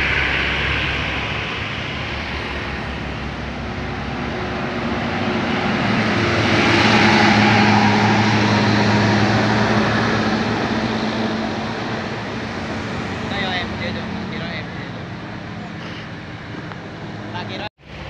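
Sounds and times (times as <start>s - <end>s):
bus engine passing: 0.0s - 18.0s.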